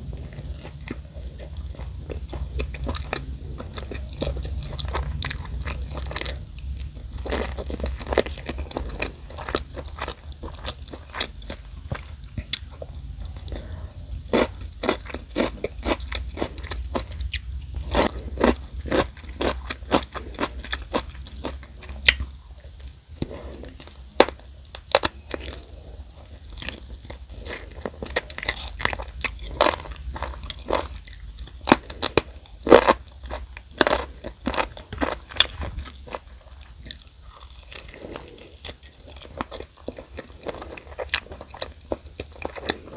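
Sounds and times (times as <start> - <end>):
biting and crunching fried chicken: 0.0 - 42.9
crispy coating crackling: 0.0 - 42.9
steady low hum: 0.0 - 42.9.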